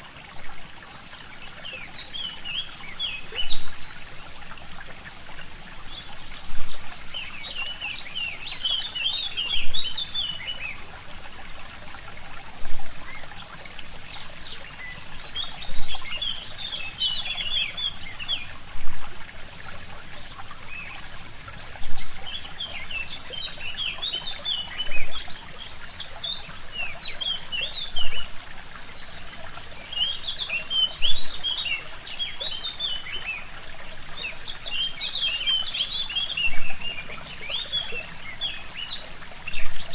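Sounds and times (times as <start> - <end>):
small stream trickling: 0.0 - 39.9
songbirds twittering: 0.0 - 39.9.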